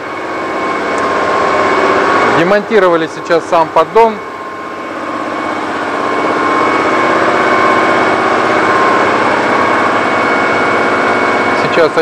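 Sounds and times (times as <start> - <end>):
engine running with fast pulse: 0.0 - 12.0
thin steady whine: 0.0 - 12.0.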